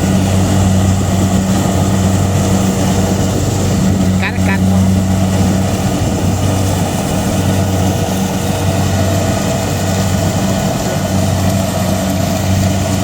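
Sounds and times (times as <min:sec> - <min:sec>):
engine running with deep hum: 0:00.0 - 0:13.0.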